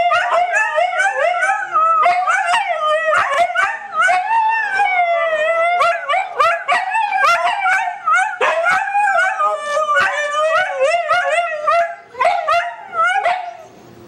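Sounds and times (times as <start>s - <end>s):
huskies howling: 0.0s - 13.8s.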